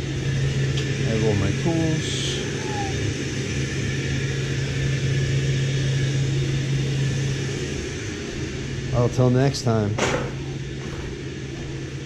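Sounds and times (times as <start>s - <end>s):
boiler hum: 0.0s - 12.0s.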